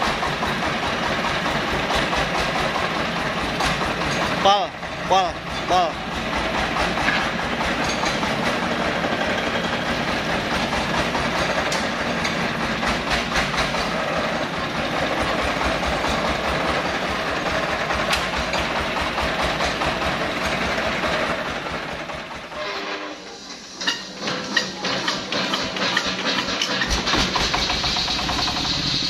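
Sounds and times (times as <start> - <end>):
tractor engine chugging: 0.0 - 22.7, 23.6 - 29.0.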